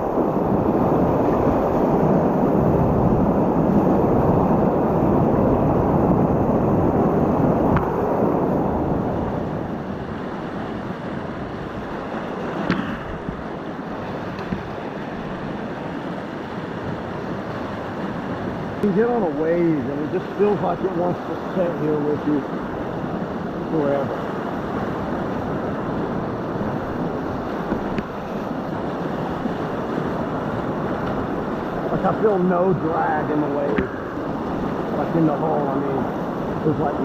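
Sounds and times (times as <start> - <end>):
rushing whitewater: 0.0 - 37.0.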